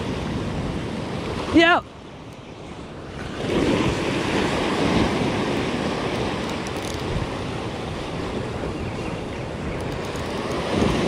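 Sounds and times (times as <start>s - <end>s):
sea waves washing over rocks: 0.0s - 8.8s, 9.4s - 11.0s
wind on microphone: 0.0s - 11.0s.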